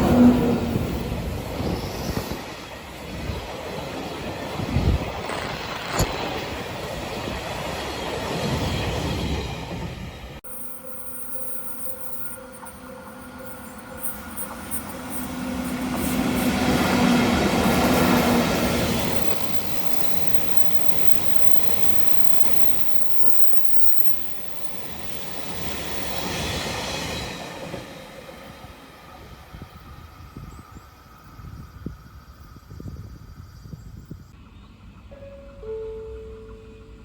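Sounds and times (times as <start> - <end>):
train passing on rails: 0.0 - 37.0.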